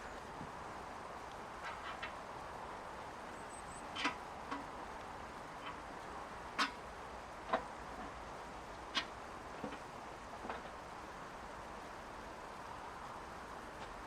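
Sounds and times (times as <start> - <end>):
mountain river rushing: 0.0 - 14.0
rain: 0.0 - 14.0.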